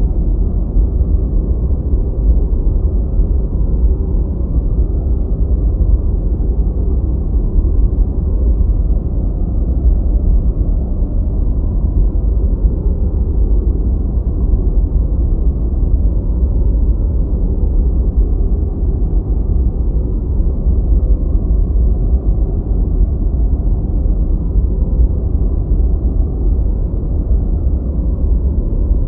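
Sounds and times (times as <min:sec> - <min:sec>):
deep rumbling white noise: 0:00.0 - 0:29.0.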